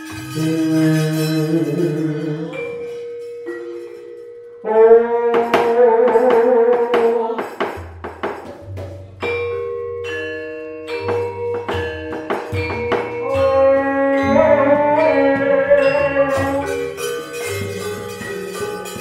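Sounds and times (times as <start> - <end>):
wavering held melody line: 0.0 - 7.3, 9.2 - 19.0
metallophones struck: 0.0 - 19.0.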